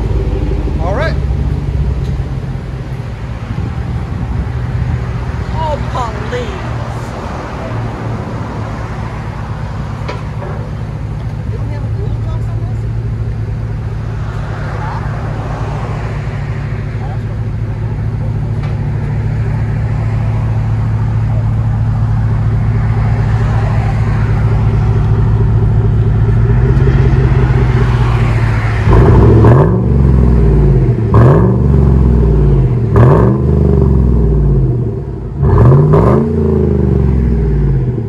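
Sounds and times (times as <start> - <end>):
car exhaust idling and revving: 0.0 - 38.0.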